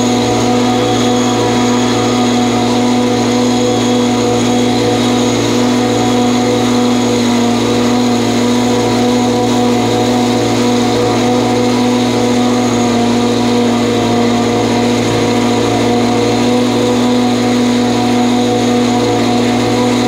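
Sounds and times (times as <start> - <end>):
mower engine running: 0.0 - 20.0.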